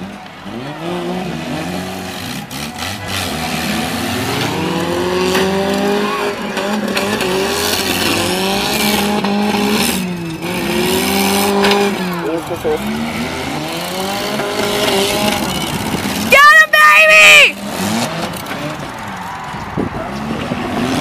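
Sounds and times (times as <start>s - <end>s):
car engines revving hard: 0.0s - 21.0s
cars ramming each other: 0.0s - 21.0s.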